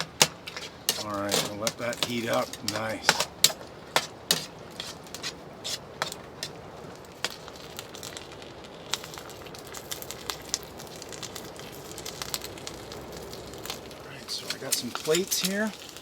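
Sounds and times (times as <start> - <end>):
meat sizzling in a pan: 0.0 - 16.0
wood stove crackling: 0.0 - 16.0.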